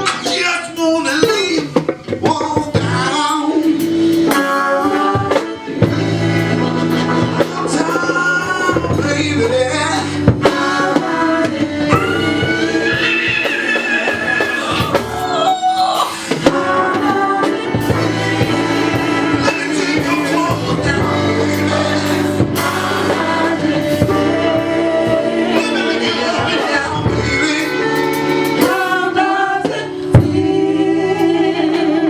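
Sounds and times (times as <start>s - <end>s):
lead vocalist singing: 0.0s - 32.0s
live band playing: 0.0s - 32.0s.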